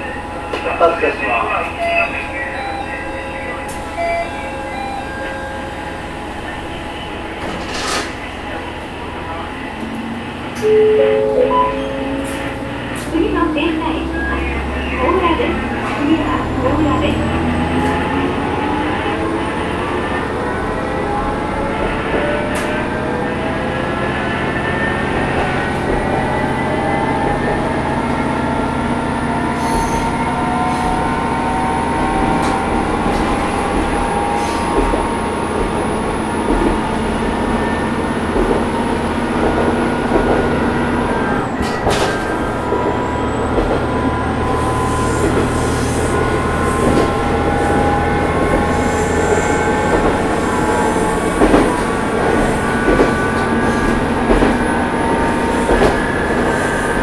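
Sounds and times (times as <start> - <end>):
railcar engine drone: 0.0 - 57.0
transmission whine: 8.2 - 57.0.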